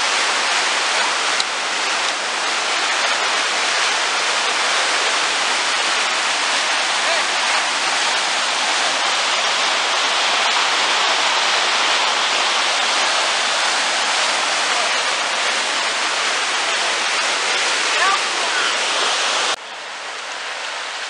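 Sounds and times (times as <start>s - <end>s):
water rushing over boulders: 0.0s - 21.0s.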